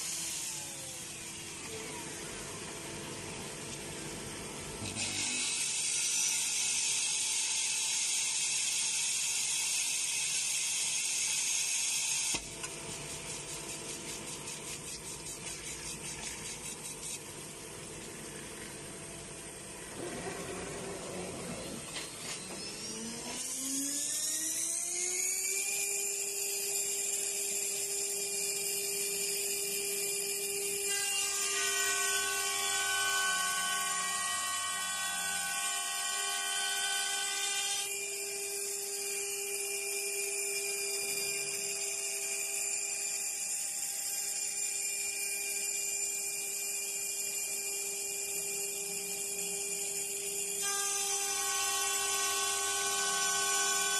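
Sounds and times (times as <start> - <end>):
spindle motor whine: 0.0 - 13.5, 14.1 - 53.9.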